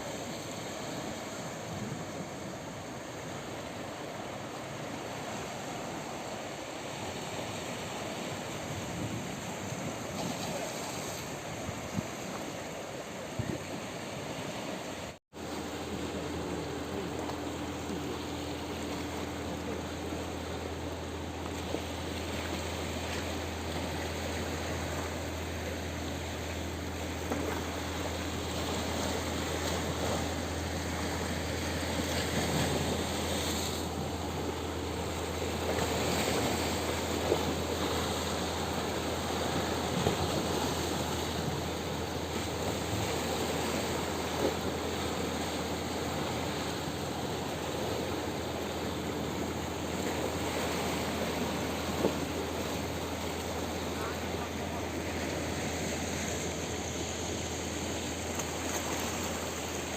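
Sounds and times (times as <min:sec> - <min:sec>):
sea waves washing over rocks: 0:00.0 - 0:59.9.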